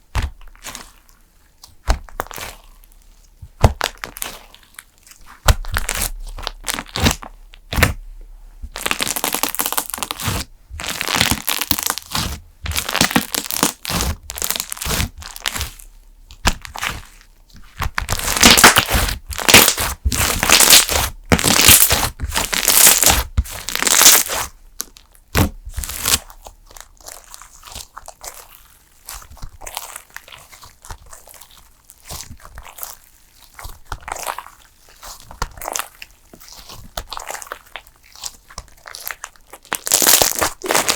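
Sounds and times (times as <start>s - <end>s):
slime squished by hand crackling: 0.1s - 8.0s, 8.7s - 40.9s.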